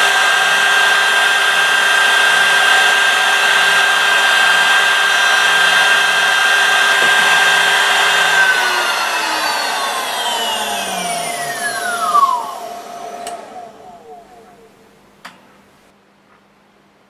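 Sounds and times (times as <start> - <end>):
spindle motor high whine: 0.0 - 15.3.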